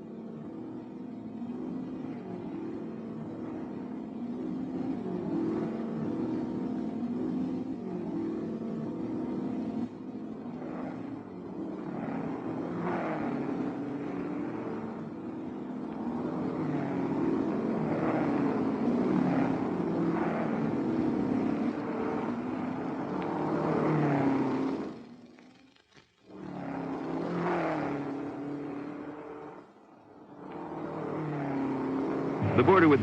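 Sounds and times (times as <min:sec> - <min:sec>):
cars speeding past: 0:00.0 - 0:33.0
racing car engines running: 0:00.0 - 0:33.0.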